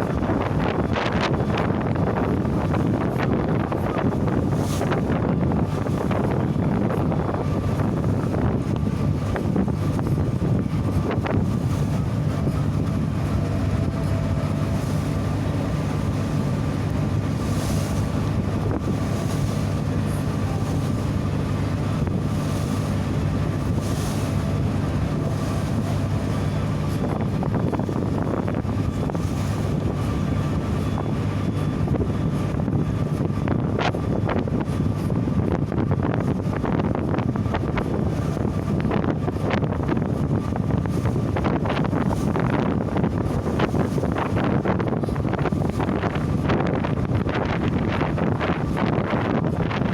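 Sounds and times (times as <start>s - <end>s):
steady engine hum: 0.0s - 49.9s
wind noise on microphone: 0.0s - 49.9s.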